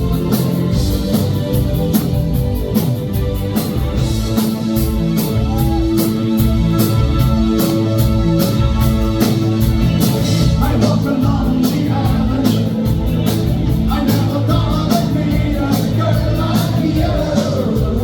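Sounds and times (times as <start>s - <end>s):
live band playing: 0.0s - 18.0s
steady drum beat: 0.0s - 18.0s.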